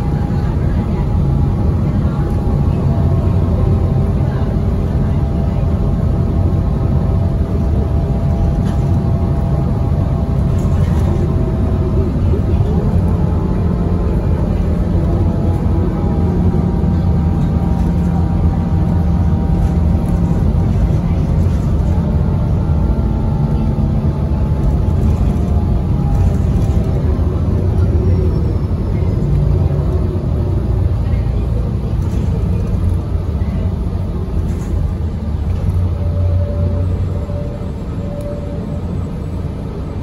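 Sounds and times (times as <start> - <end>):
bus engine running: 0.0 - 40.0
road rumble: 0.0 - 40.0.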